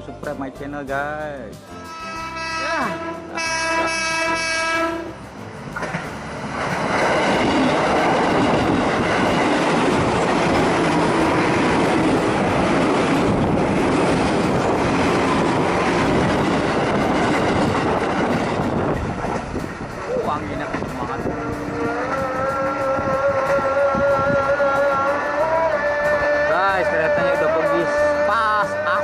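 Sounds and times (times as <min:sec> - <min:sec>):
train wheels rumbling on rails: 0:03.2 - 0:29.0.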